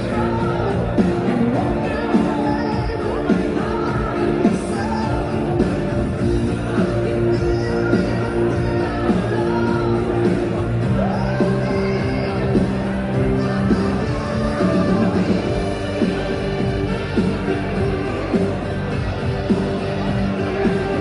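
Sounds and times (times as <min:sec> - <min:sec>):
loud rock music with singing: 0:00.0 - 0:21.0.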